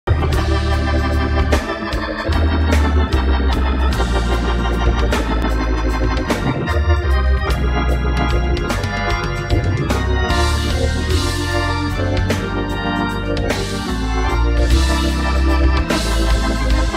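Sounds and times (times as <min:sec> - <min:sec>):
organ playing gospel chords: 0:00.0 - 0:16.9.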